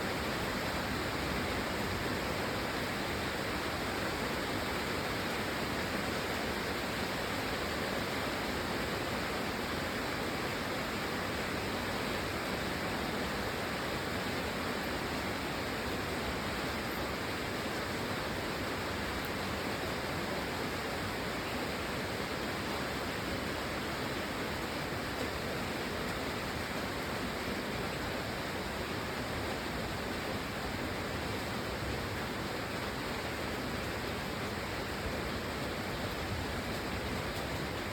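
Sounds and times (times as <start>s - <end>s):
rain falling steadily: 0.0s - 37.9s.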